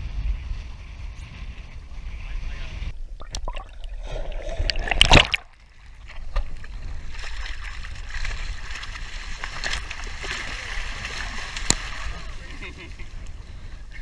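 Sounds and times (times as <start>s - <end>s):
water around a boat: 0.0s - 14.0s
wind rumbling on microphone: 0.0s - 14.0s.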